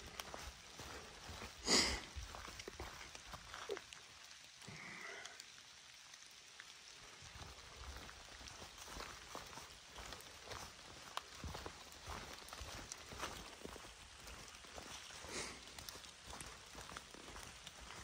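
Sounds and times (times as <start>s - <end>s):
footsteps in soggy leaves: 0.0s - 4.9s, 5.8s - 18.0s
rain drops ticking: 0.0s - 18.0s.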